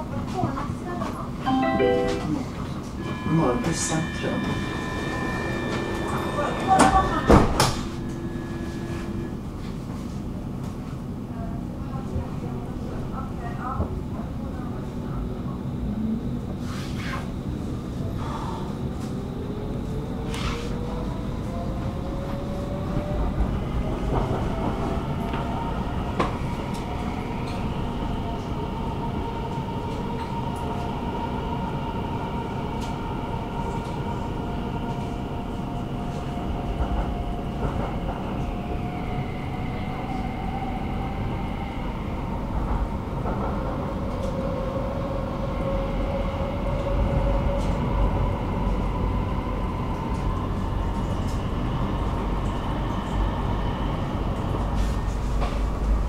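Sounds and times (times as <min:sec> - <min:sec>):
train wheels rumbling on track: 0:02.7 - 0:56.0.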